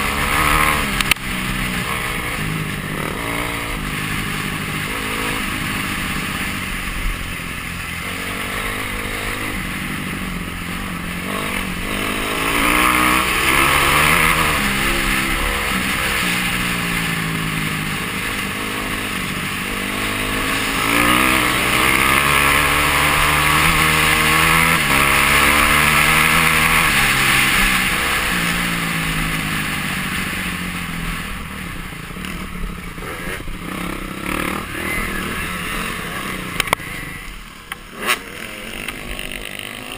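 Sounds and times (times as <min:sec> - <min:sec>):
dirt bike engine accelerating: 0:00.0 - 0:39.9.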